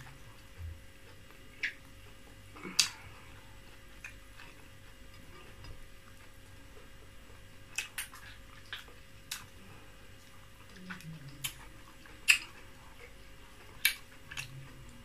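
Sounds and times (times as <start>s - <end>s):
lip smacking and chewing: 0.0s - 15.0s.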